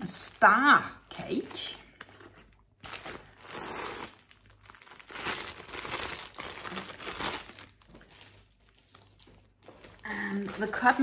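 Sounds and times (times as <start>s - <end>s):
packaging crinkling: 1.3s - 11.0s.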